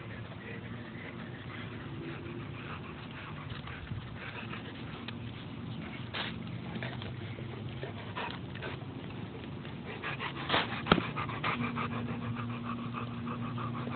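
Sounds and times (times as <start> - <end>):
dog panting: 0.0 - 13.9.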